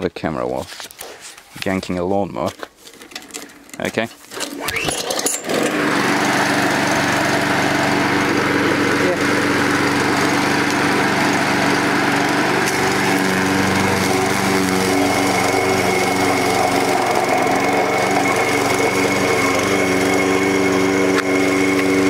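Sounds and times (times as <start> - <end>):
lawnmower engine running: 2.8 - 22.0.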